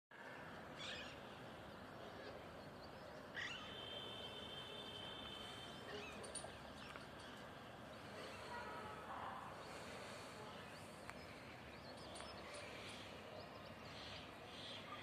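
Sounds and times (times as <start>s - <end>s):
outdoor background noise: 0.1s - 15.0s.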